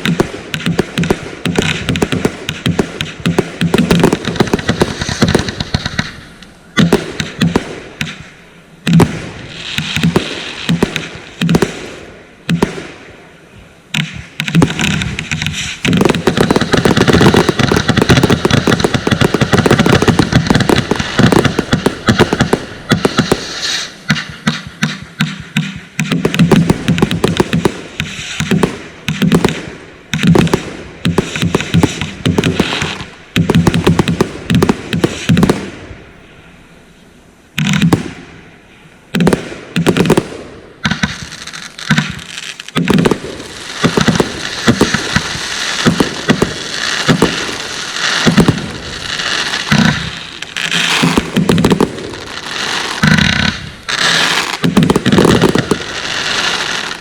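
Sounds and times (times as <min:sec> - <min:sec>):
fireworks banging and crackling: 0:00.0 - 0:36.1, 0:37.5 - 0:38.5, 0:39.1 - 0:57.0.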